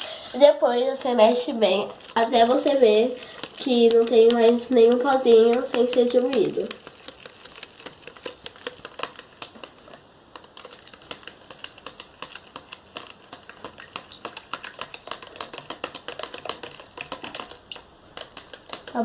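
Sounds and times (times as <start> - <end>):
utensil clicking against container: 3.3 - 19.0.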